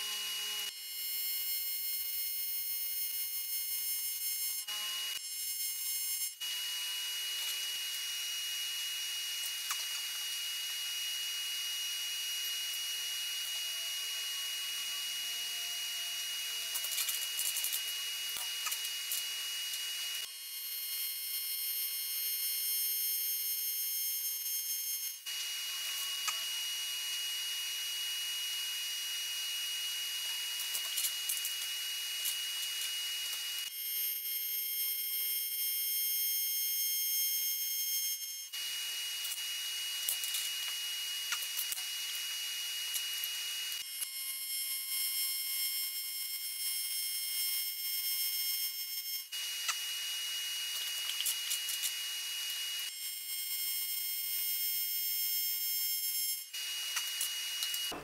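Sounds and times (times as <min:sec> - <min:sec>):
welding arc buzzing: 0:00.0 - 0:58.0.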